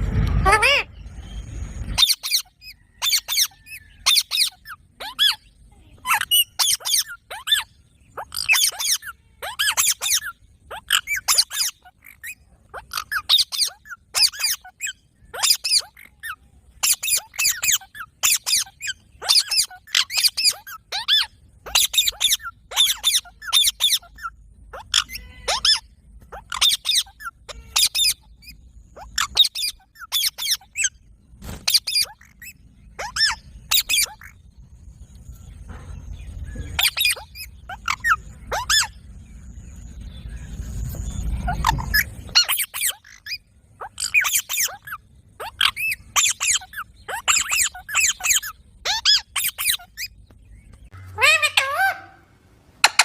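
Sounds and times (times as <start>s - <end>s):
parakeet shrill calls: 1.8s - 31.0s, 31.6s - 34.4s, 36.3s - 39.0s, 41.0s - 50.2s, 50.9s - 52.3s.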